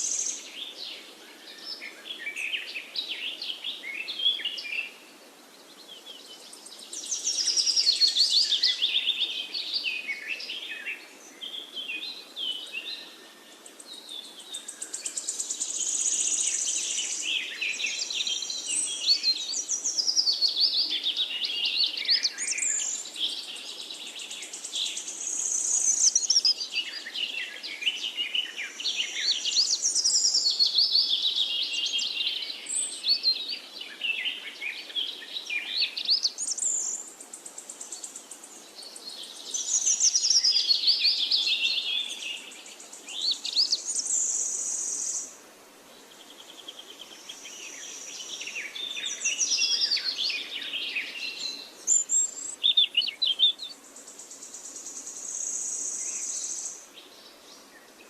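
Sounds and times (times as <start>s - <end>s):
birds chirping and trilling: 0.0s - 5.0s, 5.6s - 45.3s, 46.0s - 58.0s.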